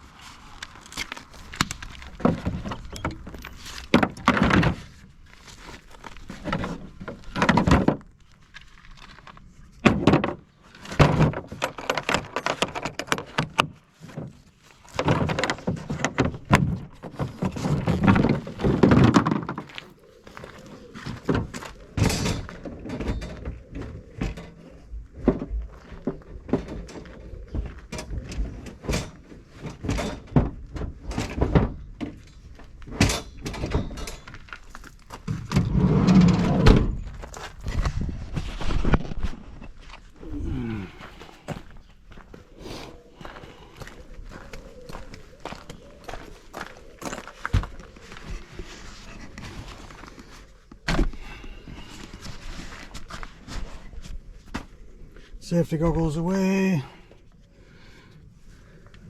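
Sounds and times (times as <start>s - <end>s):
rustling and scraping: 0.0s - 59.0s.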